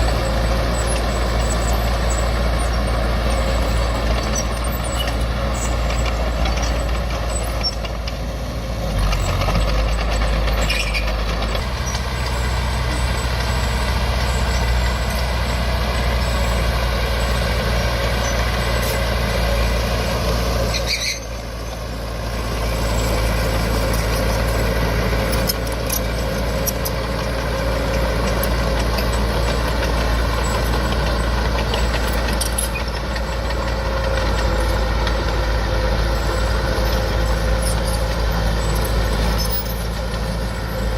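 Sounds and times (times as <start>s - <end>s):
heavy machinery diesel engine: 0.0s - 40.9s.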